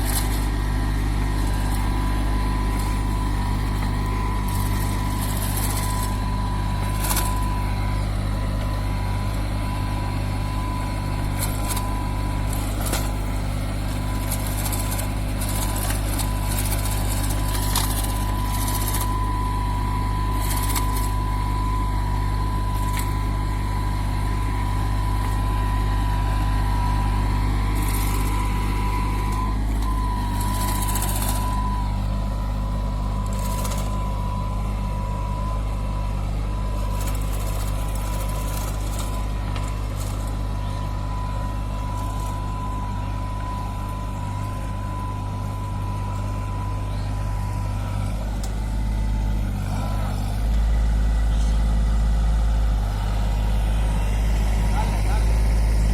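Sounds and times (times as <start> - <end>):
thin steady whine: 0.0 - 55.9
tractor diesel engine running: 0.0 - 55.9.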